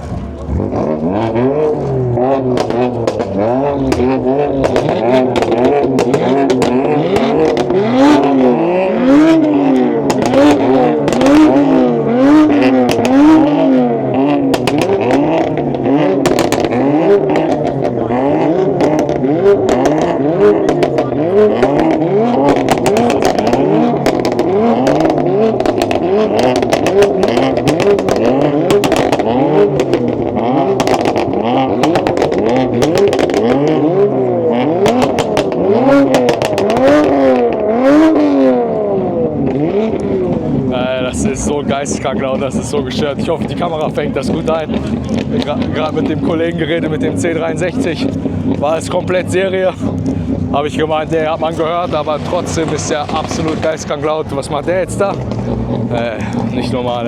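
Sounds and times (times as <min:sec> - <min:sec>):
car engine revving: 0:00.0 - 0:57.0
exhaust crackles and pops: 0:00.0 - 0:57.0.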